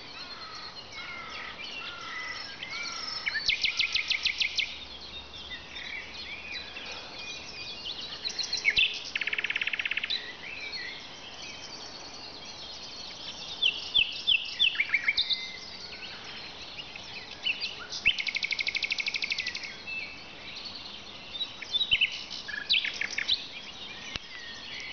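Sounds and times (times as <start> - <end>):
nightingale singing: 0.0 - 24.9.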